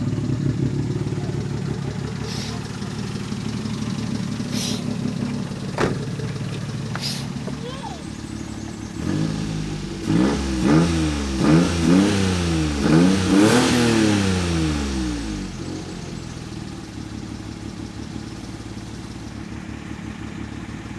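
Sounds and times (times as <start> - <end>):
car engine revving and idling: 0.0 - 20.9.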